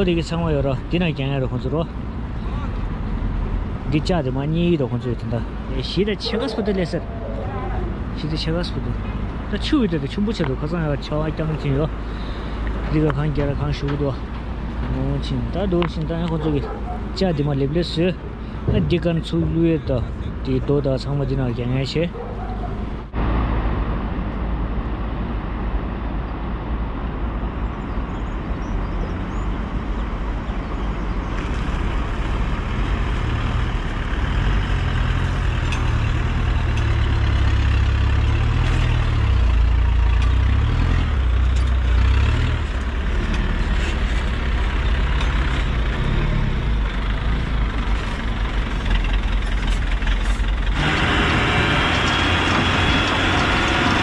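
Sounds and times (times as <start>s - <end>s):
diesel truck engine rumbling: 0.0s - 54.0s.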